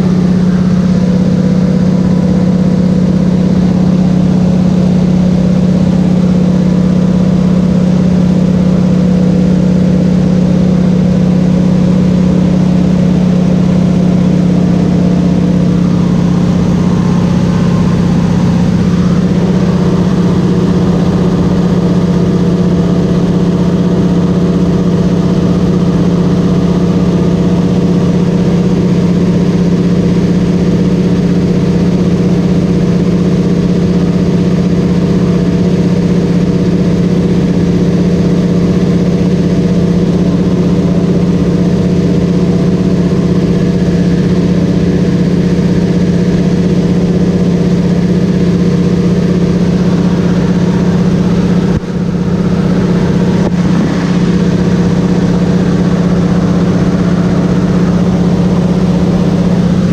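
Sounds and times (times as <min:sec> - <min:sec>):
light aircraft engine in cabin: 0:00.0 - 0:59.9.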